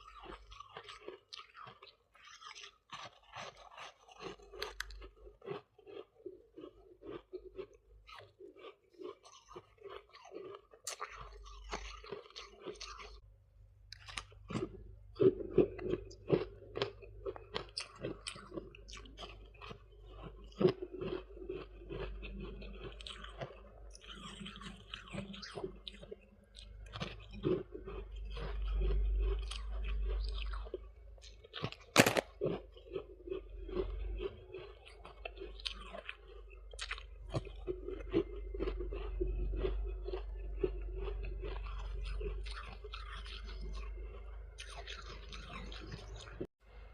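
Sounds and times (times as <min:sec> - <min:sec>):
crunchy chewing of frost: 0:00.0 - 0:46.5.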